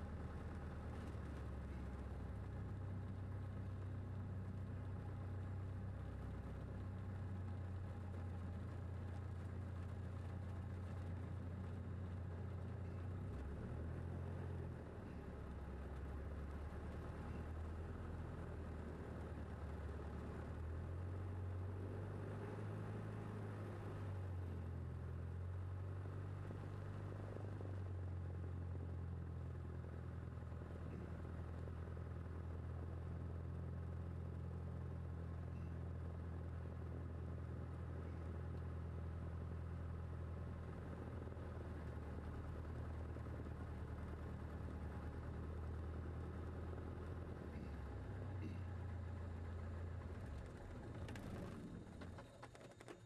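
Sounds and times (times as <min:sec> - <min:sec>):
light aircraft engine drone: 0:00.0 - 0:53.0.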